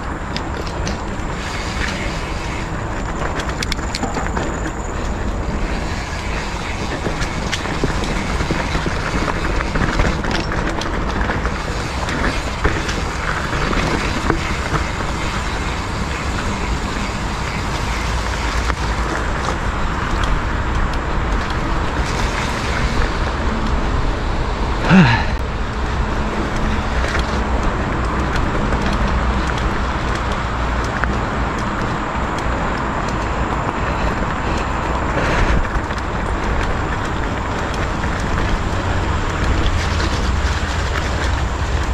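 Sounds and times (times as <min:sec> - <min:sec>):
bike rattles and clicks: 0:00.0 - 0:41.9
bike tyre noise: 0:00.0 - 0:41.9
wind rumble on camera: 0:00.0 - 0:41.9.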